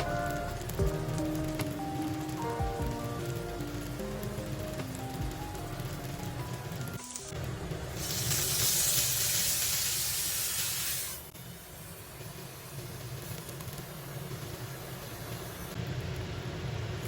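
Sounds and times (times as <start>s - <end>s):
dumplings sizzling in a pan: 0.0s - 17.0s.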